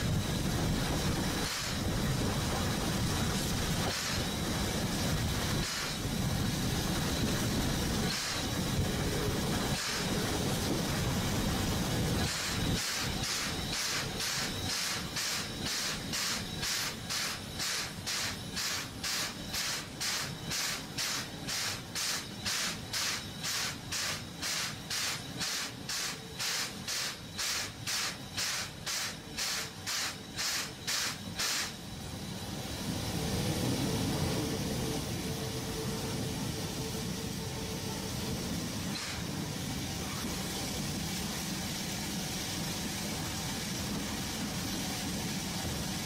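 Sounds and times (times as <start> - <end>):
steady rumble: 0.0 - 23.0, 31.8 - 46.0
steam locomotive chuffing: 0.0 - 46.0.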